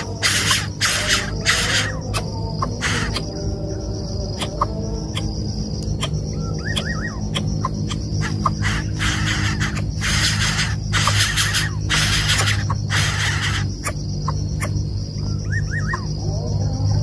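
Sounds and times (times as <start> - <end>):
high-pitched insect buzz: 0.0 - 17.0
low steady hum: 0.0 - 17.0
wavering bird chirp: 0.0 - 17.0.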